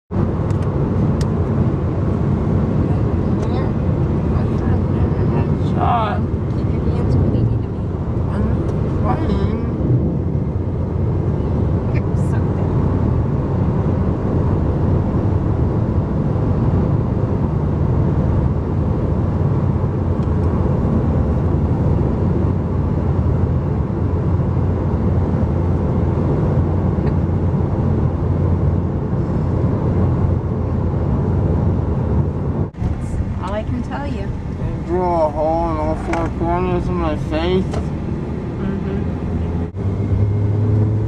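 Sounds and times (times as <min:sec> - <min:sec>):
low rumble: 0:00.1 - 0:41.0
tyre road noise: 0:00.1 - 0:41.0.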